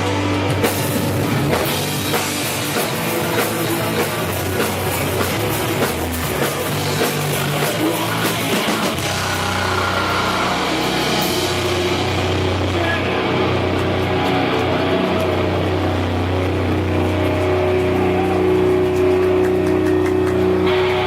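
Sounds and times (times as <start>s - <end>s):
heavy rock band playing: 0.0s - 21.0s.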